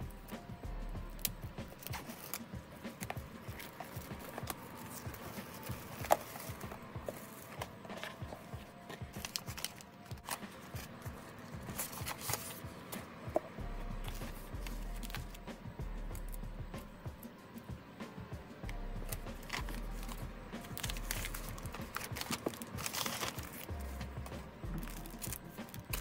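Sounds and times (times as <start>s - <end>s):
soft background music: 0.0s - 26.0s
packaging being opened and handled: 1.2s - 15.5s, 18.7s - 26.0s.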